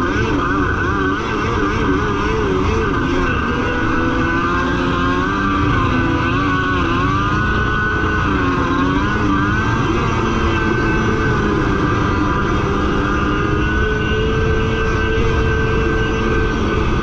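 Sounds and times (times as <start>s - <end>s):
jet ski engine revving: 0.0s - 17.0s.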